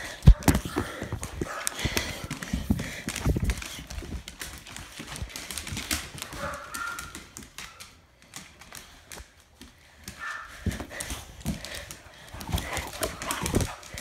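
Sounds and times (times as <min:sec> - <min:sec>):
dog claws clicking on wooden floor: 0:00.0 - 0:14.0.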